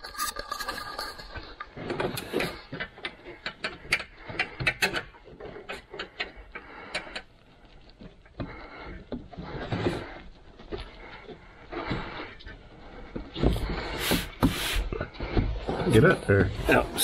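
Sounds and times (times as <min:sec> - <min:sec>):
scraping and rubbing: 0:00.0 - 0:17.0.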